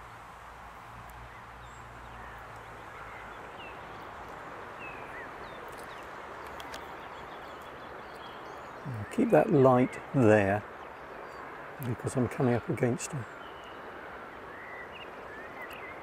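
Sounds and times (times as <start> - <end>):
woodland background hiss: 0.0 - 16.0.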